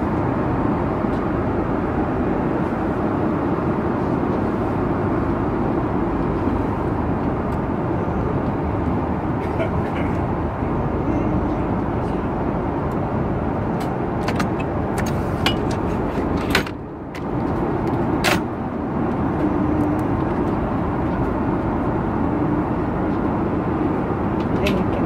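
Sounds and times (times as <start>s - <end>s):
airliner cabin noise: 0.0s - 25.0s.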